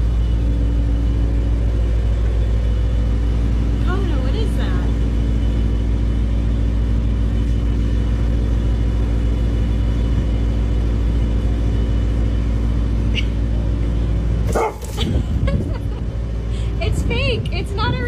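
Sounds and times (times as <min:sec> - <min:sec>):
car interior rumble and hum: 0:00.0 - 0:18.0.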